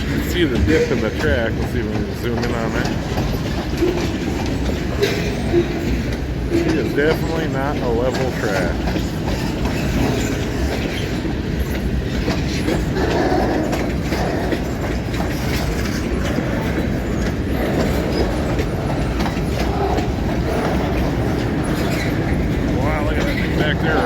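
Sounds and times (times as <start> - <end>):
clickety-clack of rail joints: 0.0 - 24.0
rumble of wheels on rails: 0.0 - 24.0
wheel squeal: 2.2 - 24.0.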